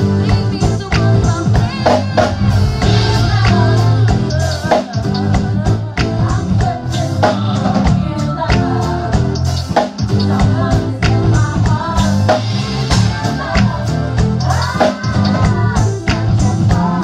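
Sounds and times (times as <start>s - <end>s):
drum kit beat: 0.0s - 17.0s
electric bass: 0.0s - 17.0s
live band playing groove: 0.0s - 17.0s.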